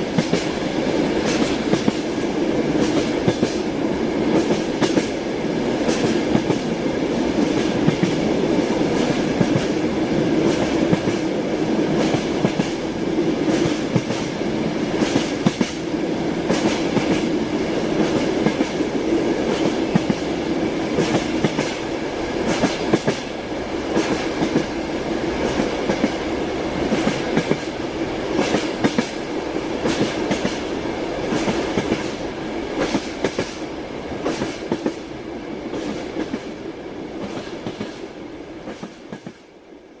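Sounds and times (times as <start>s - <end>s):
train wheels clickety-clack: 0.0s - 39.6s
rumble of moving train car: 0.0s - 40.0s.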